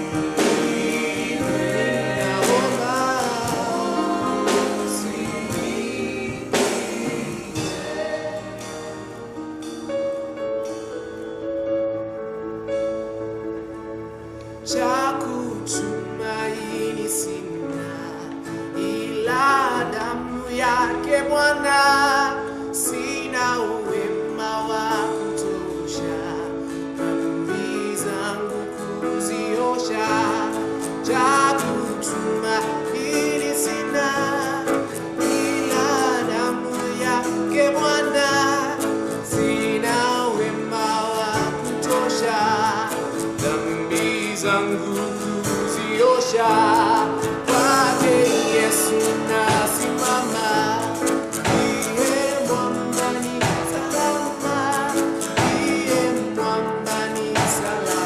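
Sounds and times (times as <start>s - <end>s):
singers with instrumental accompaniment: 0.0s - 11.3s, 14.1s - 58.0s.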